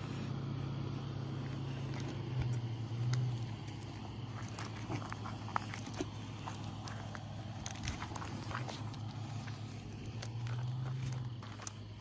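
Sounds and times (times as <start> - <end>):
crunches on gravel: 0.0 - 12.0
steady low hum: 0.0 - 12.0.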